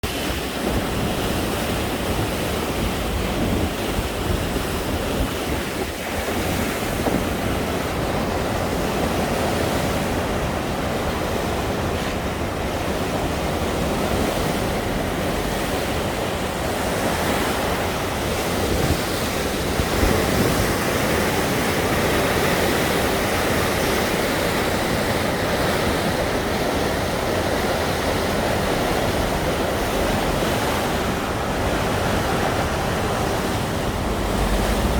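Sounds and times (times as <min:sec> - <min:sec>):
river water rushing: 0:00.0 - 0:34.9
wind buffeting microphone: 0:00.0 - 0:34.9.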